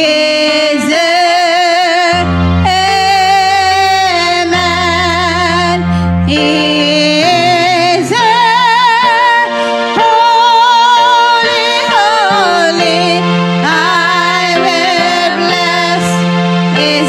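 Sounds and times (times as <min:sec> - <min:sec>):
women singing with vibrato: 0:00.0 - 0:17.0.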